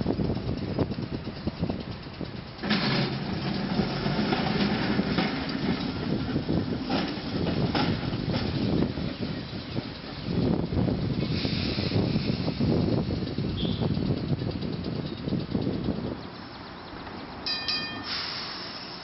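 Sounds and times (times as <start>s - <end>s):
streetcar wheels rumbling on rails: 0.0s - 19.0s.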